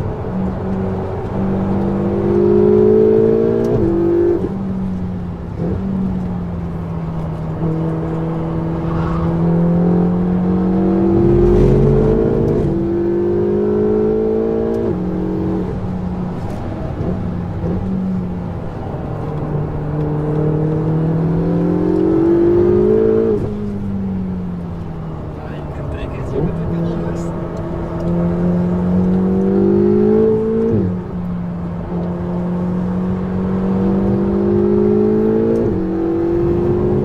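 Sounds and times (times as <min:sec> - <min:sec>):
car engine accelerating through gears: 0:00.0 - 0:37.0.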